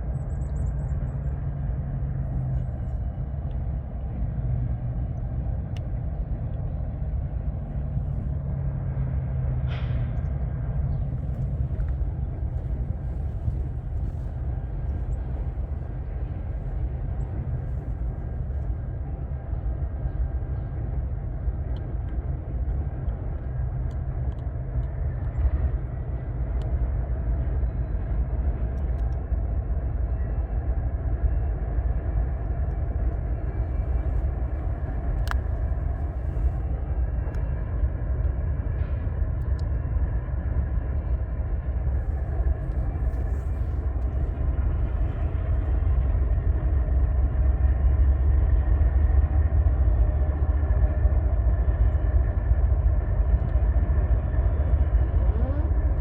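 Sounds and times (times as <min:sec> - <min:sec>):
freight train rumbling by: 0:00.0 - 0:56.0.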